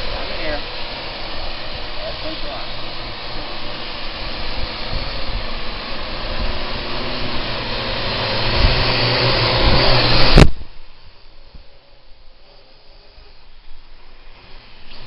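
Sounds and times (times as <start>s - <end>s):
drone rotors whirring: 0.0s - 15.0s.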